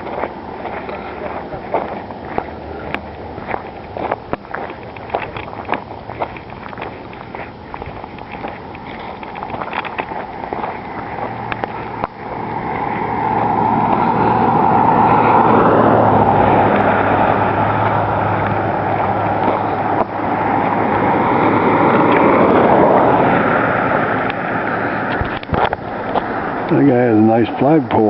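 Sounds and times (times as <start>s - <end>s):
road and wind noise: 0.0s - 28.0s
vehicle engine hum: 0.0s - 28.0s.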